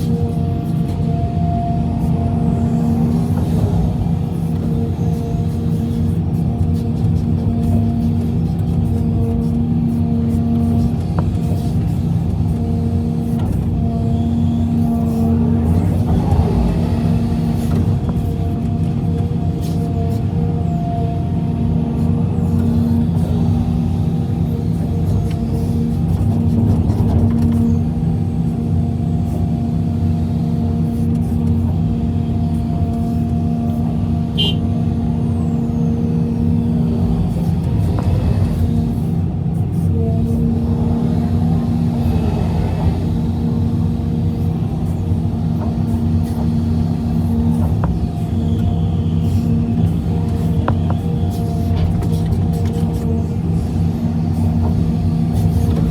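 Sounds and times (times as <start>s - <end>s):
diesel excavator engine running: 0.0s - 55.9s.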